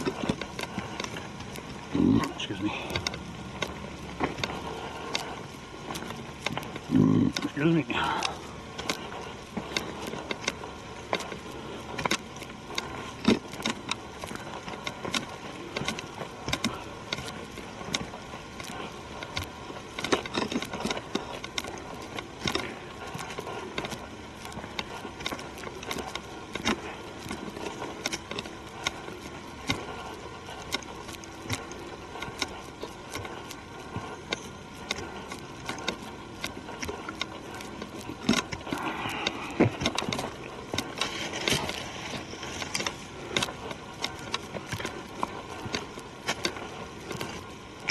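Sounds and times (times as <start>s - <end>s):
footsteps on leaves and twigs: 0.0s - 47.9s.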